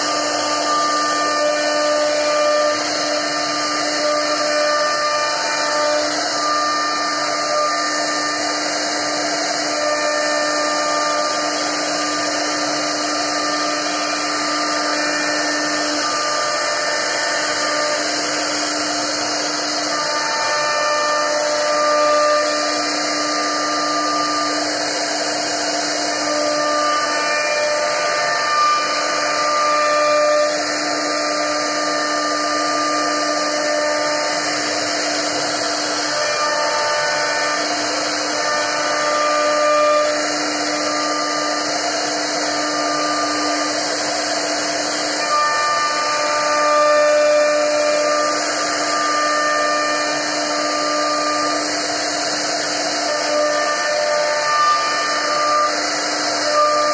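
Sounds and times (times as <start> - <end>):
router spindle whine: 0.0 - 56.9
wood cutting hiss: 0.0 - 56.9.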